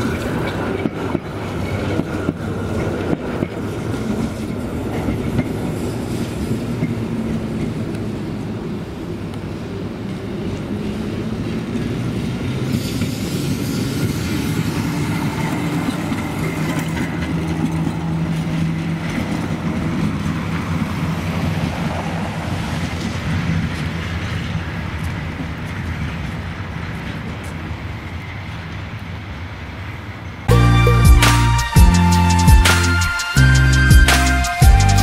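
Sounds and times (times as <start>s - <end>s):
tram running with low hum: 0.0s - 35.0s.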